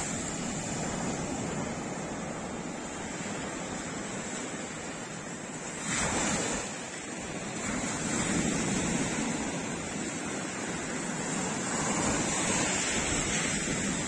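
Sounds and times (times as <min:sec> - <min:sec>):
waves washing up a beach: 0:00.0 - 0:14.0.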